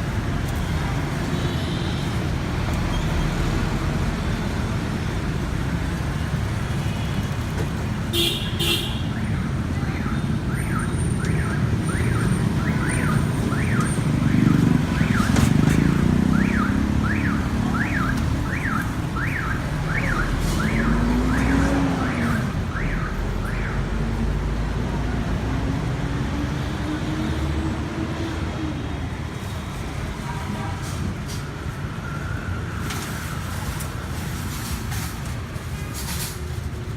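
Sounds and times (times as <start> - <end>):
street traffic: 0.0 - 36.9.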